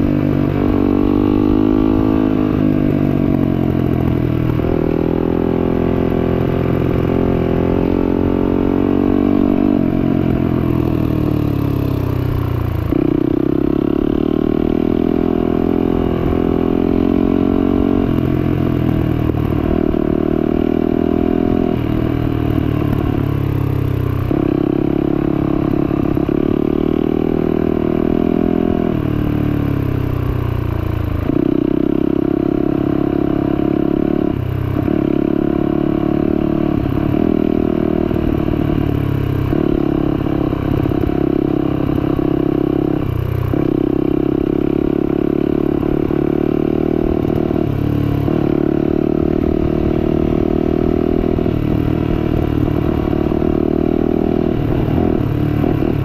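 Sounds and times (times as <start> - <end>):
motorcycle engine running under load: 0.0 - 56.0.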